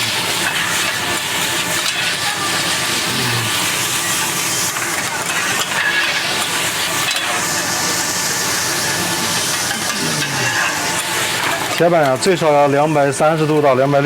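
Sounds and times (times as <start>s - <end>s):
spatula stirring: 0.0s - 13.8s
rice sizzling on hot plate: 0.0s - 14.0s
steady mechanical hum: 0.0s - 14.0s.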